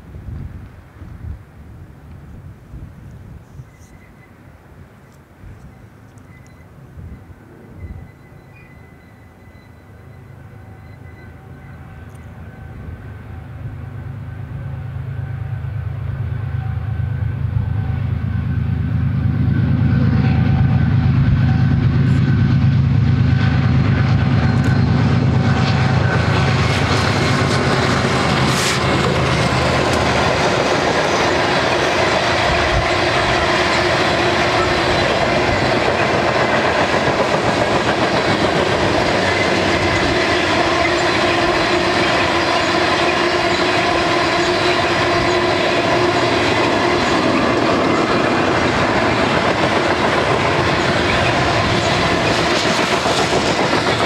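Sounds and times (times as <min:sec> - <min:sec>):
diesel locomotive engines droning: 0:00.0 - 0:54.0
train wheels rumbling on rails: 0:00.0 - 0:54.0.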